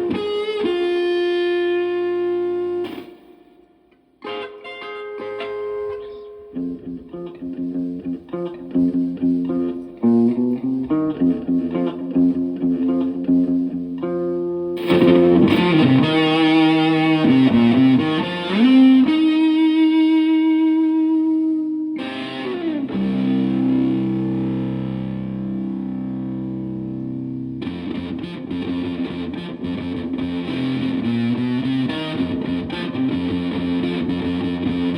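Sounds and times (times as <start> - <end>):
fuzz electric guitar: 0.0 - 34.9.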